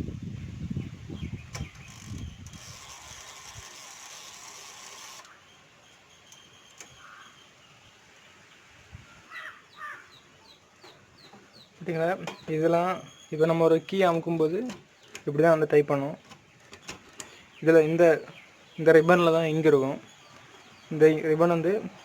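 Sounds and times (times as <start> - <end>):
birds chirping: 0.6 - 22.0.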